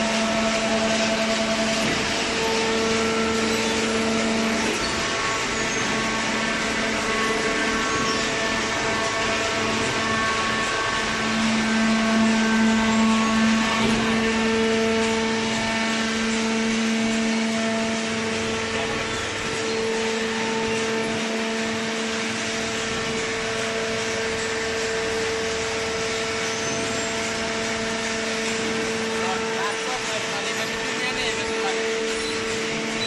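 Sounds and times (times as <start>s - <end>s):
cardboard baler machine hum: 0.0s - 33.0s.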